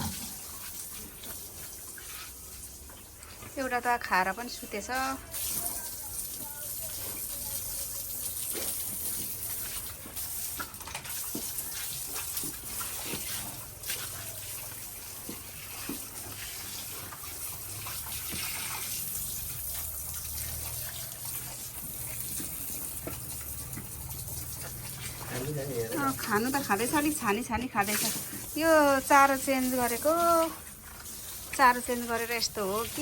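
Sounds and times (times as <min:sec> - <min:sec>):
water gushing from hose: 0:00.0 - 0:33.0.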